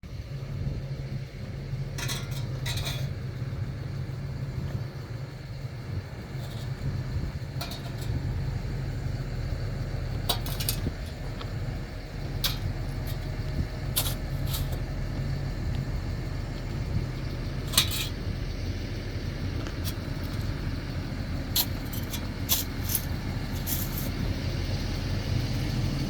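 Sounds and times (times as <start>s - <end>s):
vehicle rumble: 0.0s - 26.0s
light clinks and rattles: 1.5s - 24.6s.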